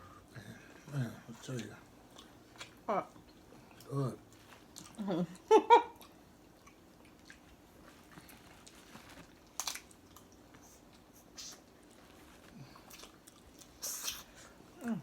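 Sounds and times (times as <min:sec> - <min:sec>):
person chewing food: 0:01.4 - 0:15.0.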